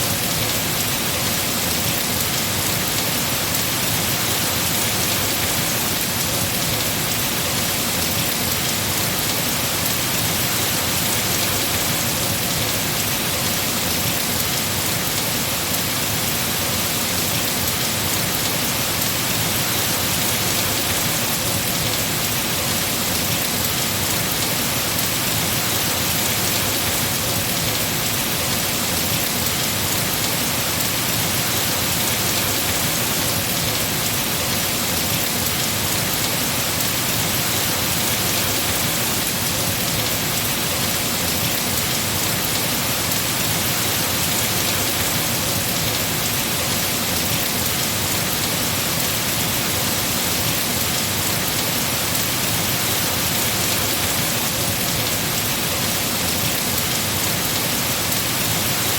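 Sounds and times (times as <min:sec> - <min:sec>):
heavy rain on leaves: 0:00.0 - 0:58.9.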